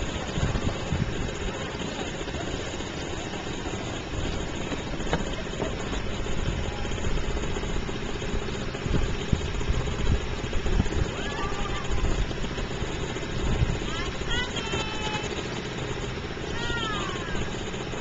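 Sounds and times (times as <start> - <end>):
small boat motor running: 0.0 - 18.0.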